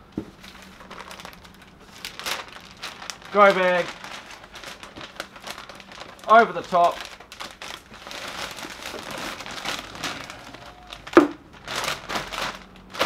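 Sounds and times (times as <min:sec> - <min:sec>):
plastic bag crinkling: 0:00.3 - 0:13.0.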